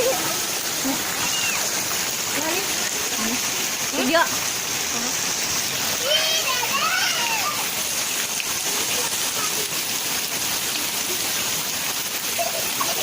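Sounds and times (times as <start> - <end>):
rain pattering on surfaces: 0.0 - 13.0.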